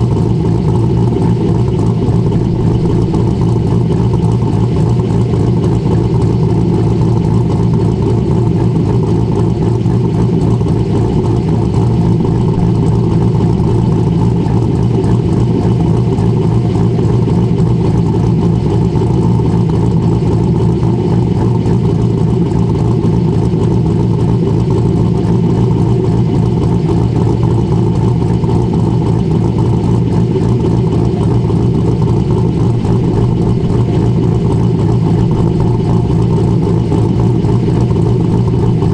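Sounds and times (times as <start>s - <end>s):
car engine choppy idle: 0.0s - 38.9s.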